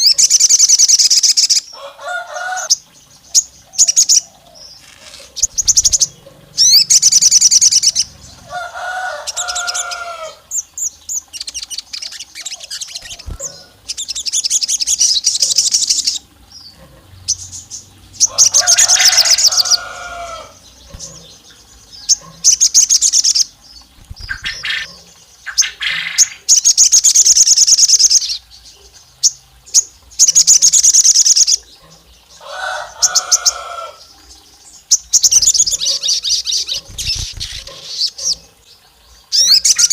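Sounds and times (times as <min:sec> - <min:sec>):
songbird chirping trills: 0:00.0 - 0:39.9.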